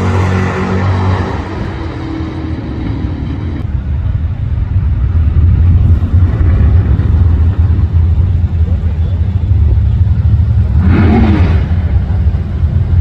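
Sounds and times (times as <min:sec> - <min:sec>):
muscle car engines rumbling: 0:00.0 - 0:13.0
passing car engine drone: 0:00.0 - 0:13.0.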